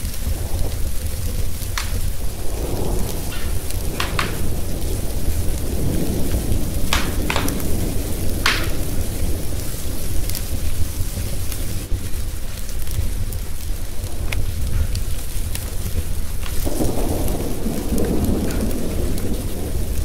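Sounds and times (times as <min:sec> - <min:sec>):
low rolling thunder: 0:00.0 - 0:20.0
sharp pops from burning logs: 0:00.0 - 0:20.0
steady rain: 0:00.0 - 0:20.0
wood fire crackling: 0:00.0 - 0:20.0.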